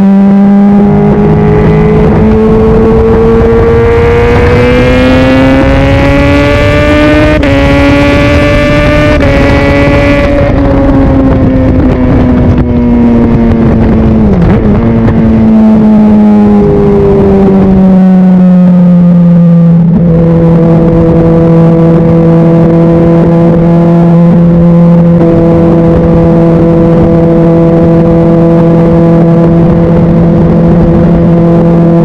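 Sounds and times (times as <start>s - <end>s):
motorcycle engine at high revs: 0.0s - 32.0s.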